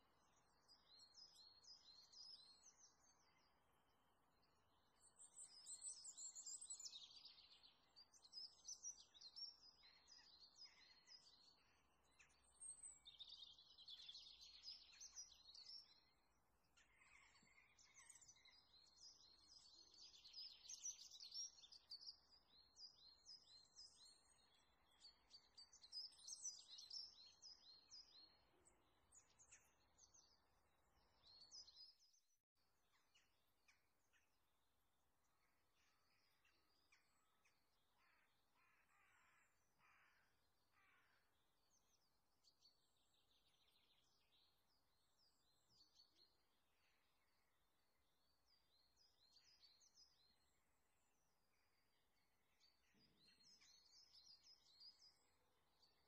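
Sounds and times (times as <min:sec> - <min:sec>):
faint songbirds twittering: 0:00.0 - 0:56.0.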